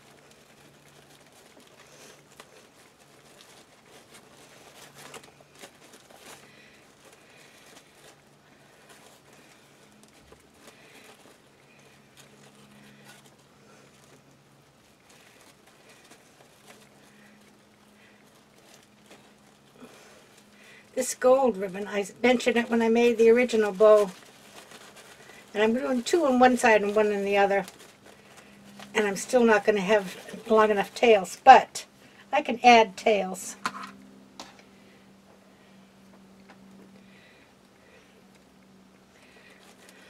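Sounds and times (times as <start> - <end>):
soft crackles: 0.0 - 33.6, 34.4 - 40.0
ribbon rustling and crinkling: 0.0 - 35.0, 35.6 - 40.0.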